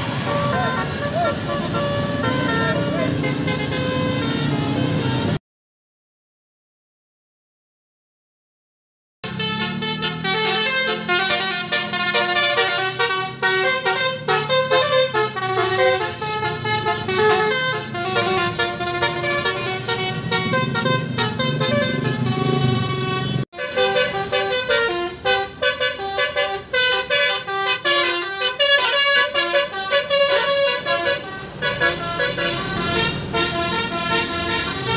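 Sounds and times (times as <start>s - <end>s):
multi-tone bus horn tune: 0.0s - 5.4s, 9.2s - 34.9s.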